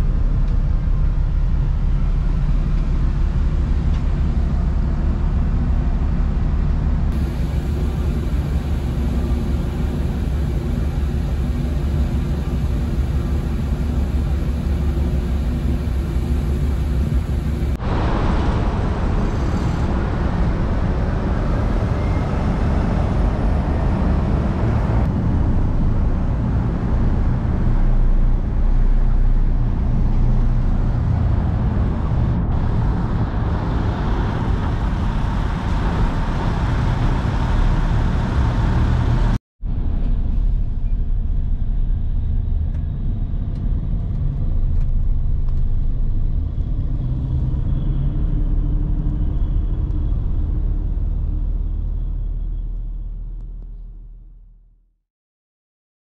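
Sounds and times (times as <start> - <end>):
lorries and cars moving: 0.0 - 41.3, 42.1 - 53.0
ferry engines droning: 0.0 - 53.7.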